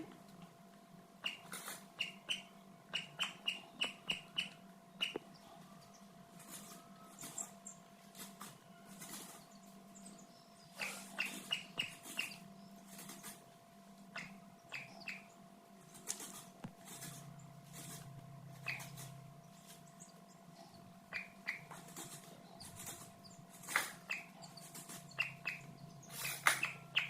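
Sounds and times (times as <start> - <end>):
faint steady hum: 0.0 - 27.0
chicks peeping: 1.2 - 27.0.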